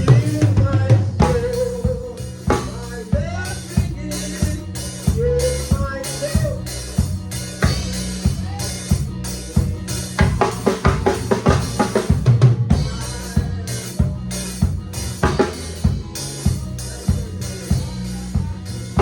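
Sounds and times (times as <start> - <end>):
drum kit playing a groove: 0.0 - 19.0
sustained bass notes: 0.0 - 19.0.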